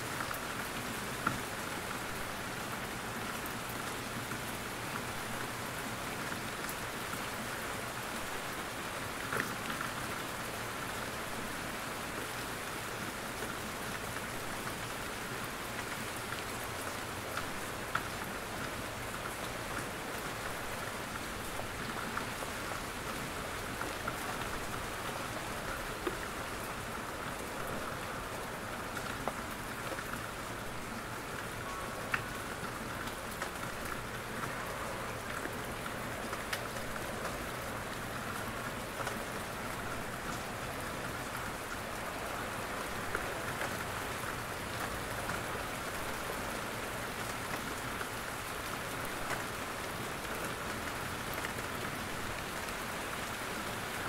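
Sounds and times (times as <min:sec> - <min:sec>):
steady rain in a forest: 0:00.0 - 0:54.0.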